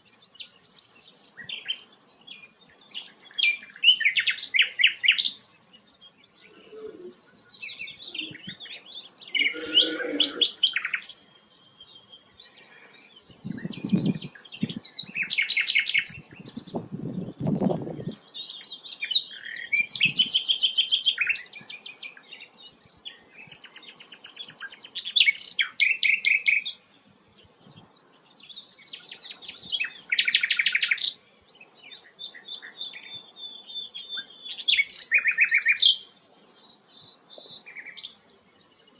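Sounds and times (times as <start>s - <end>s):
bird chirping and trilling: 0.2s - 12.1s, 13.2s - 27.4s, 28.4s - 36.6s.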